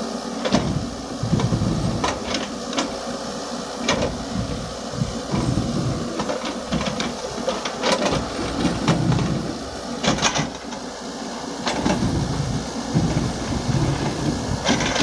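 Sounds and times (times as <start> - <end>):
excavator engine rumbling: 0.0 - 15.0
excavator bucket clanks and scrapes: 0.4 - 3.0, 3.8 - 10.8, 11.6 - 15.0.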